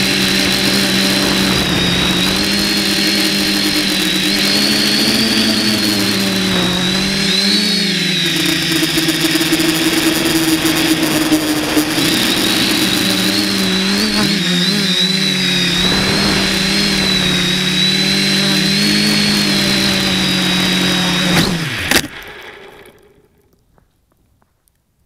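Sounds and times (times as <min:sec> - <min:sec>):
drone motors whining: 0:00.0 - 0:23.4.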